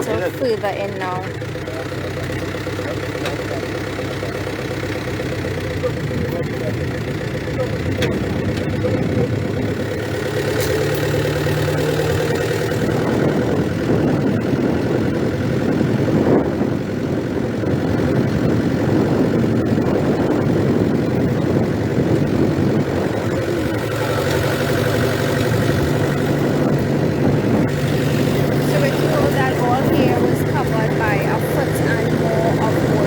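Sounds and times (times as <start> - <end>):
vehicle engine: 0.0 - 33.0.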